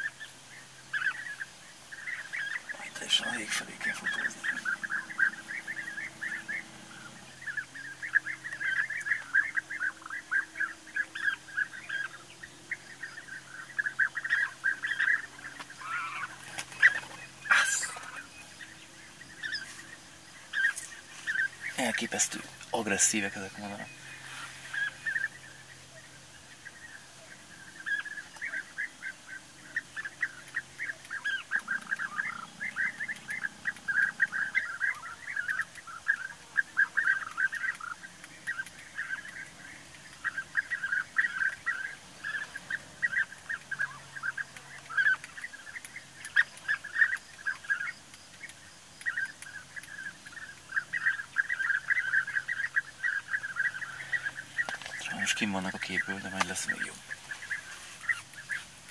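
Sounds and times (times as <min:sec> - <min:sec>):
birds rolling calls: 0:00.0 - 0:58.9.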